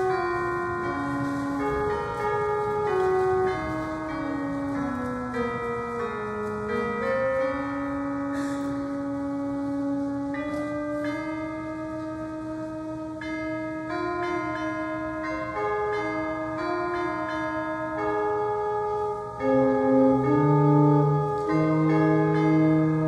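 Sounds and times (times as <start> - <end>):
church organ playing hymn: 0.0 - 23.0.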